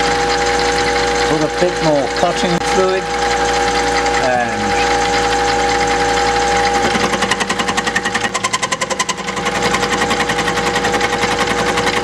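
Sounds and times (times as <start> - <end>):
lathe motor whine: 0.0 - 12.0.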